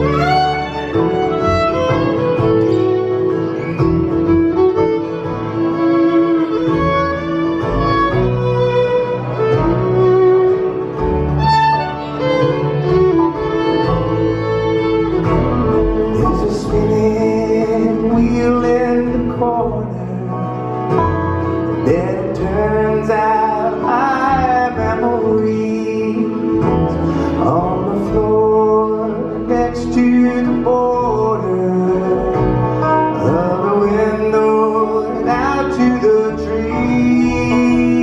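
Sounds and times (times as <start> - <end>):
bluegrass string band playing: 0.0 - 38.0.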